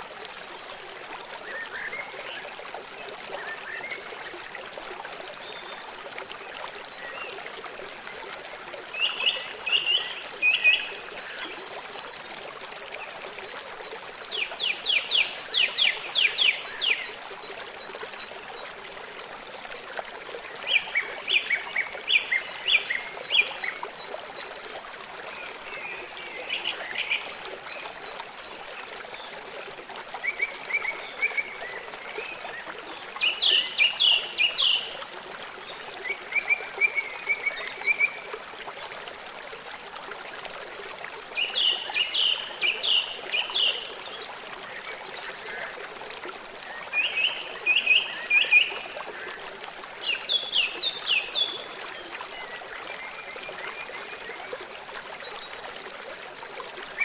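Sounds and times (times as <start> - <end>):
flowing stream: 0.0 - 57.0.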